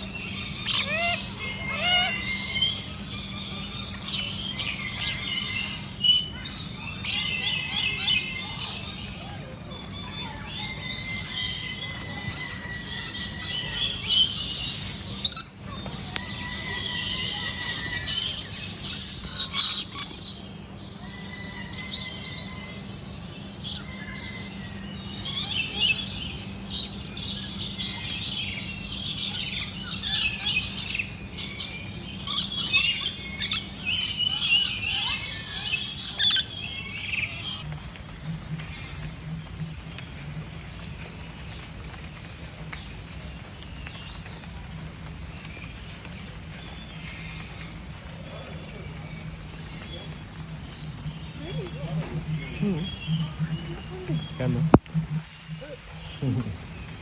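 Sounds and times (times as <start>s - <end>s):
birds chirping and calling: 0.0s - 57.0s
steady low hum: 0.0s - 57.0s.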